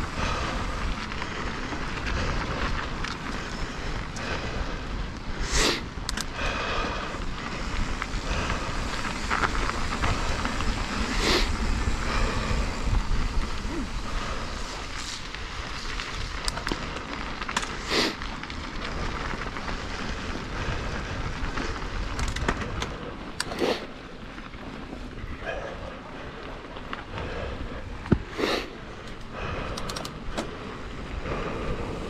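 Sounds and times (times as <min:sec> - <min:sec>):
bike tyre and drivetrain noise: 0:00.0 - 0:32.0
wind rumbling on microphone: 0:00.0 - 0:32.0.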